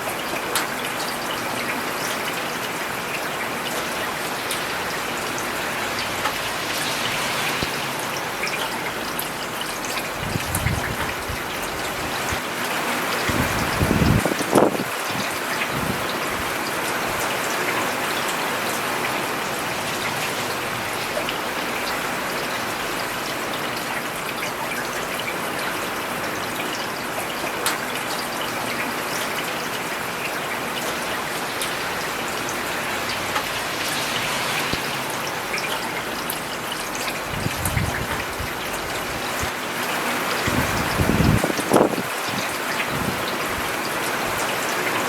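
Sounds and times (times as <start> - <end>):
rain on paved road: 0.0 - 45.0.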